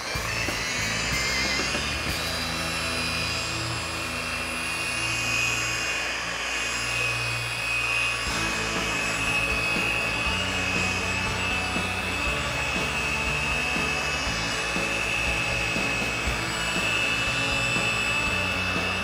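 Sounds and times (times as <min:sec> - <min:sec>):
machine polisher whining: 0:00.0 - 0:19.0.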